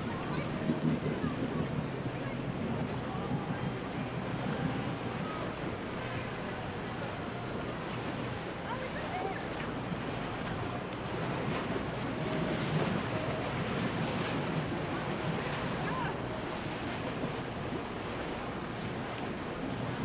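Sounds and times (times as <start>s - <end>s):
boats running: 0.0s - 20.0s
water wash: 0.0s - 20.0s.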